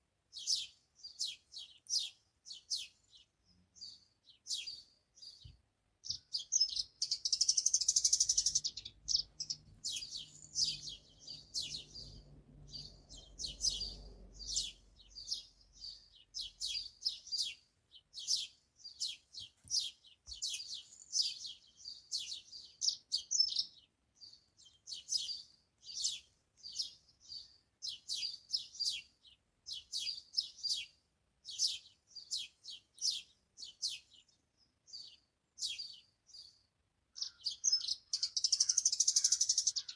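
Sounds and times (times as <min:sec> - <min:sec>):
songbirds chirping and singing: 0:00.3 - 0:39.9.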